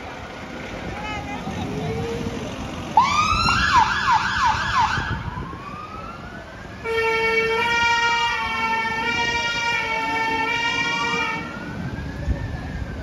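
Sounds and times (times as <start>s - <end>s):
fire engine siren: 1.8s - 13.0s.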